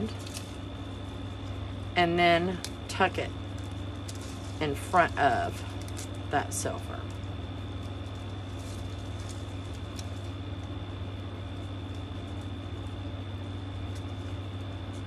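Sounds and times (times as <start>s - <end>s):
low electrical hum: 0.0s - 15.0s
ribbon crackling: 0.0s - 15.0s.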